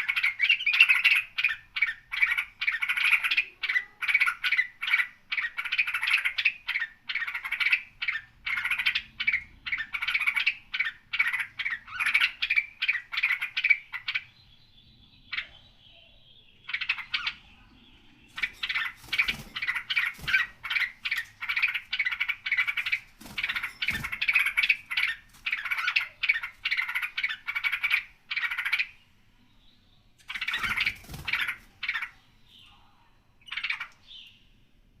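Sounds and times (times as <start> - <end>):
songbird chattering: 0.0 - 34.6.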